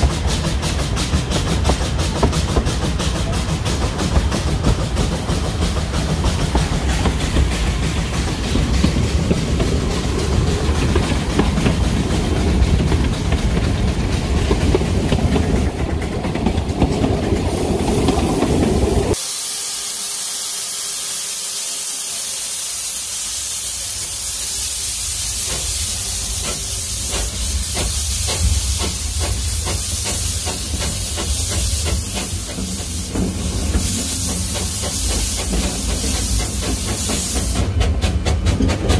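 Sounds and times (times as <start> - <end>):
steam locomotive rumbling and rattling: 0.0 - 19.2, 20.1 - 38.9
loud steam hiss: 0.0 - 38.9.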